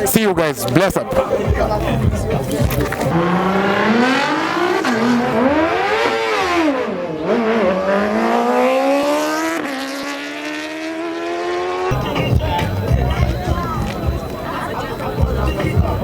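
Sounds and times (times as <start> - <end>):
car engine revving: 1.7 - 16.0.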